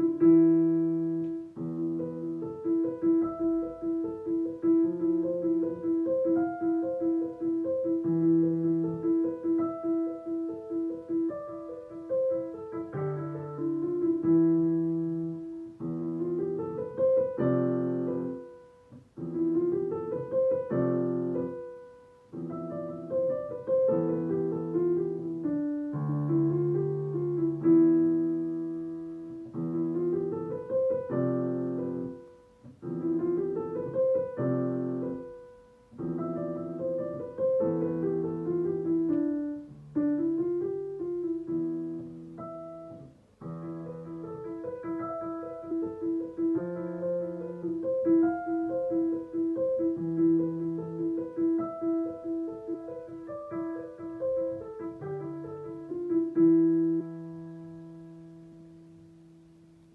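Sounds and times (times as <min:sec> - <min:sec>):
repeated piano note: 0:00.0 - 0:59.1
solo piano melody: 0:00.0 - 0:59.9.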